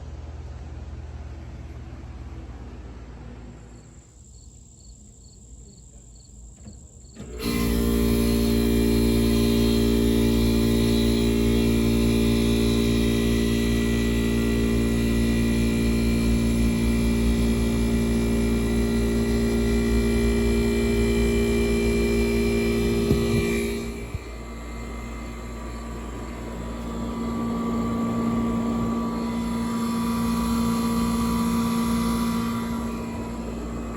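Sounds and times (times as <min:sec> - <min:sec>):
air conditioner humming: 0:00.0 - 0:33.9.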